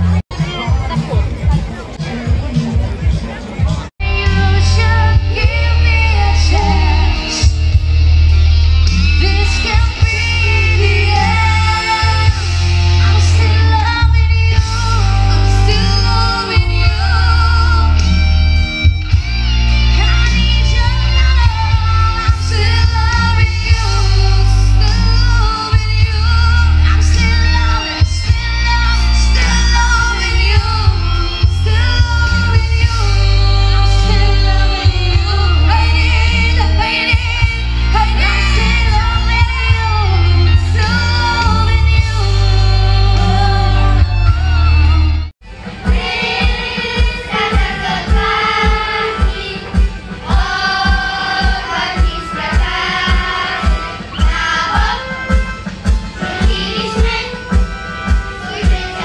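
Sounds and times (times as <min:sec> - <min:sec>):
backing track with bass and guitar: 0:00.0 - 0:59.0
women singing into microphones: 0:04.0 - 0:07.8, 0:09.0 - 0:18.4, 0:19.9 - 0:44.8, 0:45.8 - 0:55.5, 0:56.2 - 0:59.0.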